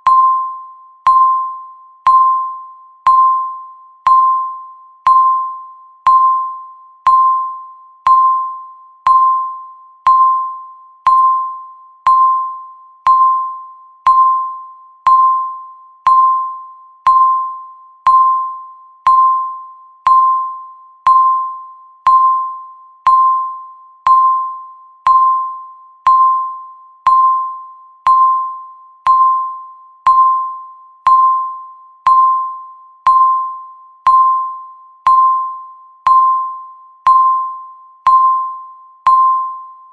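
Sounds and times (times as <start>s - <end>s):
electronic timer ticking: 0.0s - 39.6s.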